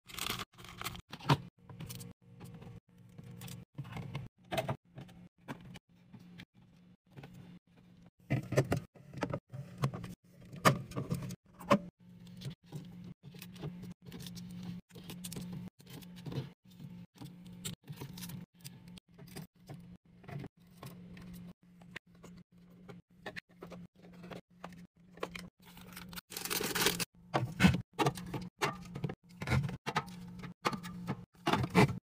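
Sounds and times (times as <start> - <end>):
refrigerator hum: 0.1 - 32.0.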